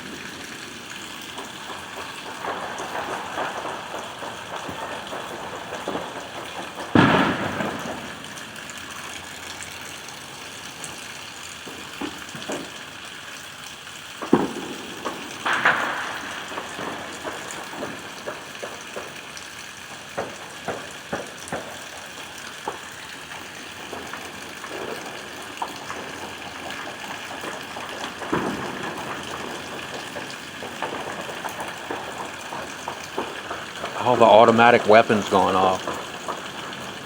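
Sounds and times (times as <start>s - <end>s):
distant fireworks and gunfire bangs: 0.0s - 37.0s
rain hiss: 0.0s - 37.0s.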